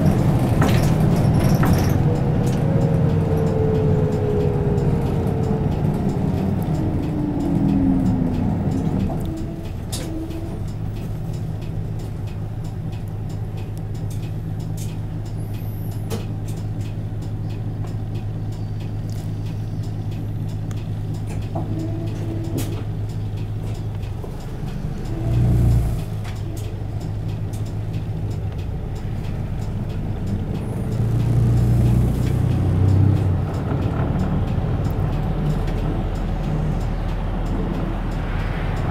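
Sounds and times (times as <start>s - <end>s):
bus diesel engine: 0.0s - 38.9s.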